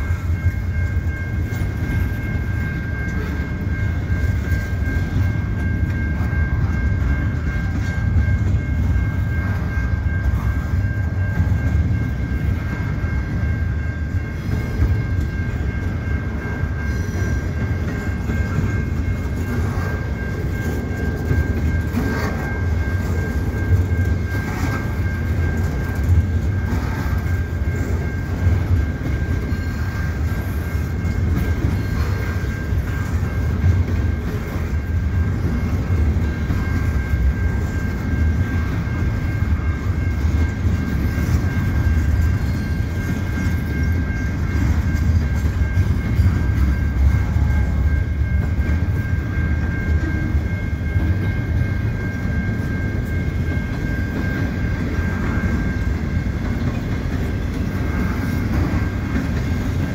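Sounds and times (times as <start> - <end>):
freight wheels rumbling on rail: 0.0 - 59.9
high-pitched ringing tone: 0.0 - 59.9.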